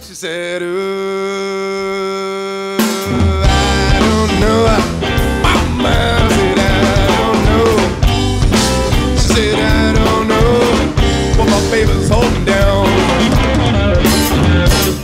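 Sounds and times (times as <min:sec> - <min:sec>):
blues band playing: 0:02.8 - 0:15.0.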